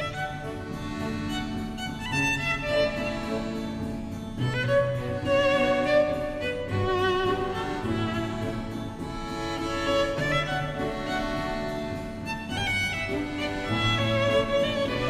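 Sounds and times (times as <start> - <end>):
bowed strings led by violin: 0.0 - 15.0.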